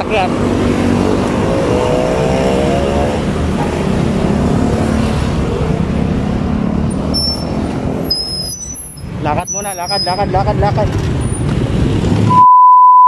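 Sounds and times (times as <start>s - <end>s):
vehicle engines running: 0.0s - 12.3s.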